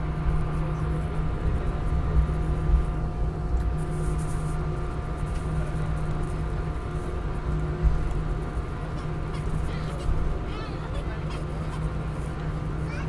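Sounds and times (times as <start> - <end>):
engine whine: 0.0 - 13.0
jet engines low rumble: 0.0 - 13.0.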